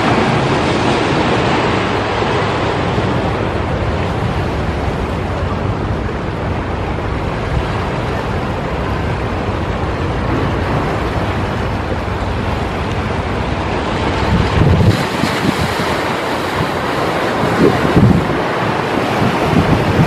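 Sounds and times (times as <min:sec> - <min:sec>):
sea surf: 0:00.0 - 0:20.0
wind rumbling on microphone: 0:00.0 - 0:20.0.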